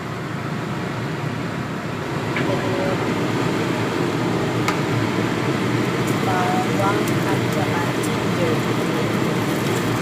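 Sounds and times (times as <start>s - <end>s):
machine-like background rush: 1.7s - 10.0s.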